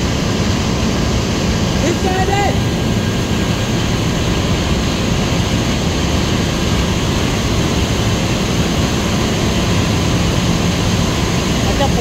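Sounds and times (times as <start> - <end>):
low industrial hum: 0.0 - 12.0
turbulent water rushing: 0.0 - 12.0.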